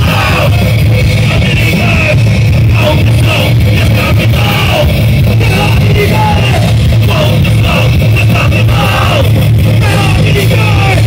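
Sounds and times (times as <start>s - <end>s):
bass guitar: 0.0s - 11.0s
distorted electric guitar: 0.0s - 11.0s
drums: 0.0s - 11.0s
shouted vocals: 0.0s - 11.0s.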